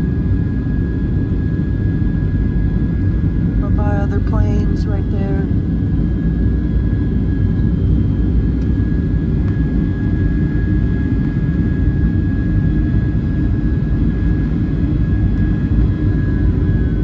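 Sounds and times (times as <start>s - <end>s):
jet engines roaring in cabin: 0.0s - 17.0s.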